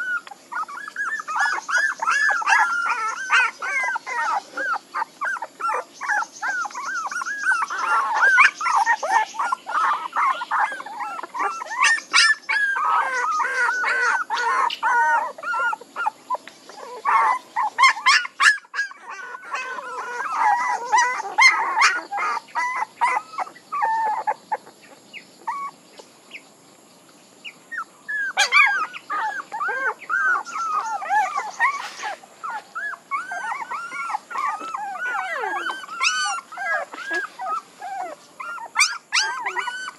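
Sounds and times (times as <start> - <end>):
puppies whining and whimpering: 0.0 - 26.0, 27.4 - 39.9.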